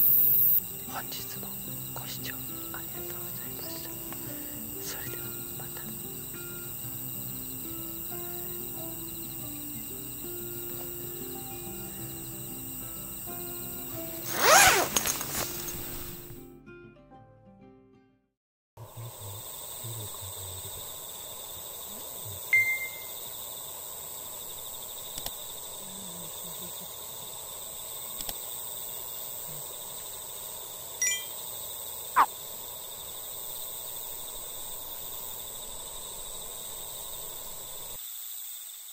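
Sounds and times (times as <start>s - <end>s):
crickets chirring: 0.0s - 16.4s, 18.8s - 38.9s.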